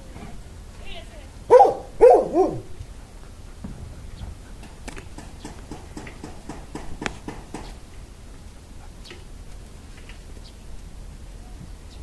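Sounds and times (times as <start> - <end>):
low steady background noise: 0.0 - 12.0.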